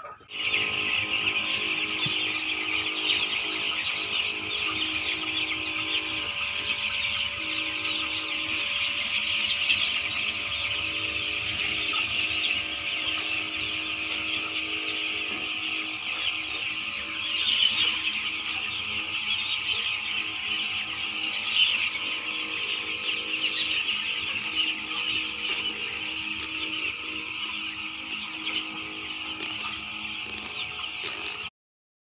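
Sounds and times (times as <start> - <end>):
chicks peeping: 0.0 - 31.5
steady low hum: 0.3 - 31.5.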